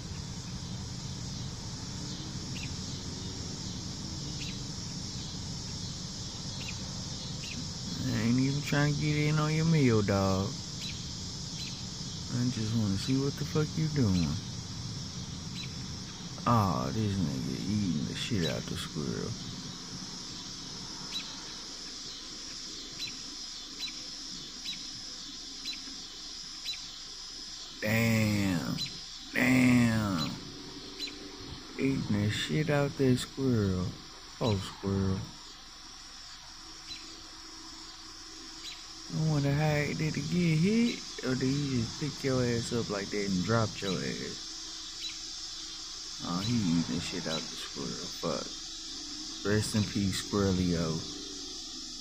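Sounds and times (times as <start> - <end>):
bird chirping: 0.0 - 35.6, 36.3 - 52.0
insect drone: 0.0 - 52.0
outdoor background hiss: 0.0 - 52.0.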